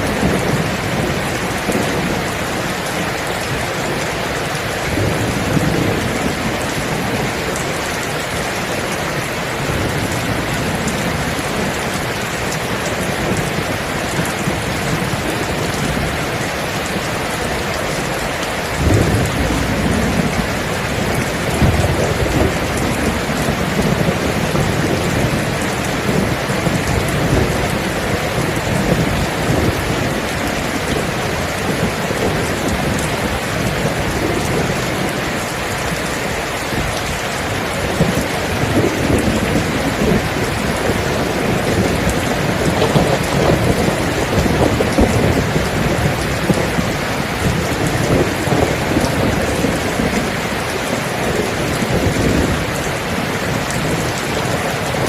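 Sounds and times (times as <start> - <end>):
heavy rain falling: 0.0 - 55.0
low rolling thunder: 0.0 - 55.0.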